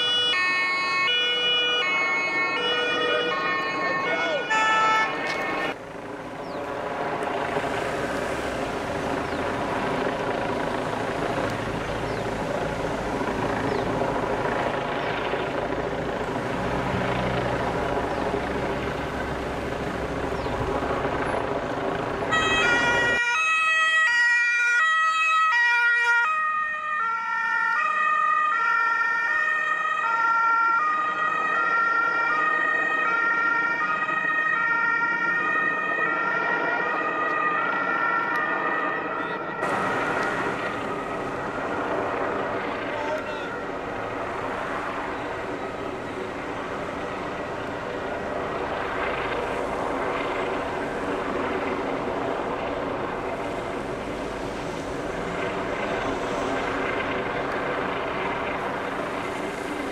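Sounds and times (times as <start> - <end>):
engine and tyre noise: 0.0 - 59.9
two-tone emergency sirens: 0.0 - 59.9.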